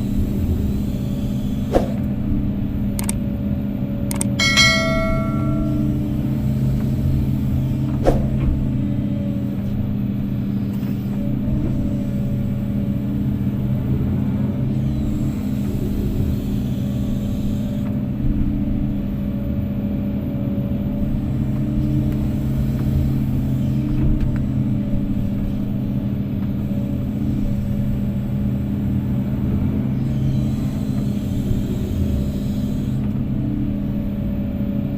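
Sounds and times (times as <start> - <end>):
diesel engine running: 5.5 - 34.9.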